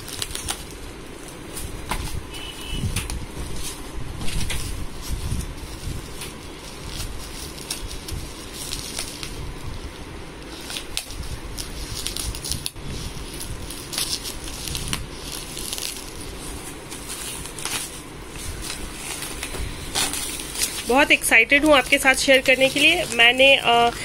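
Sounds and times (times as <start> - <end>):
sharp crackles: 0.0 - 24.0
wrapping paper rustling: 0.0 - 24.0.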